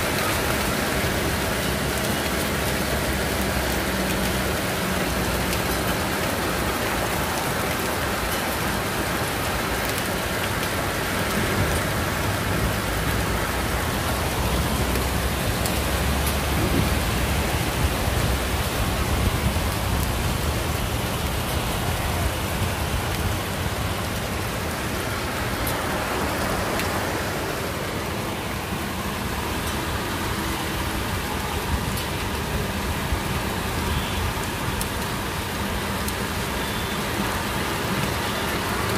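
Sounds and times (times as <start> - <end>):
heavy rain and hail: 0.0 - 38.9
traffic through water: 0.0 - 38.9.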